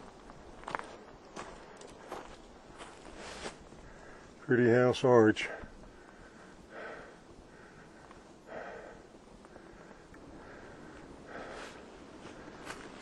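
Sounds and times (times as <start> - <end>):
person breathing hard: 1.4 - 4.4, 5.5 - 13.0.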